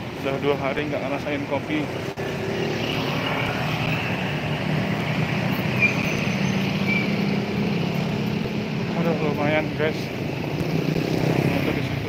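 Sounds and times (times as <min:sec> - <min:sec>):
road traffic noise: 0:00.0 - 0:12.0
vehicle engine humming: 0:00.0 - 0:12.0.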